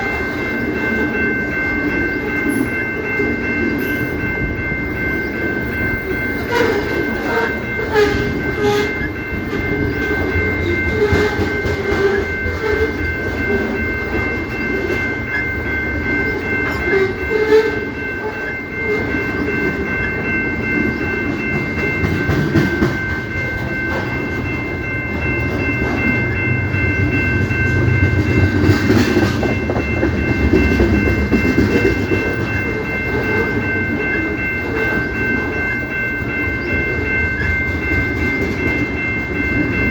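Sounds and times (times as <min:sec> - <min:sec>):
train rumble: 0:00.0 - 0:39.9
wheels clacking on rail joints: 0:00.0 - 0:39.9.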